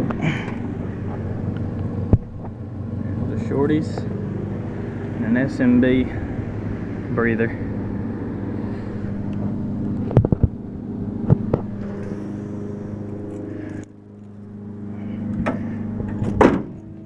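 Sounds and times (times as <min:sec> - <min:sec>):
engine idling with low rumble: 0:00.0 - 0:17.0.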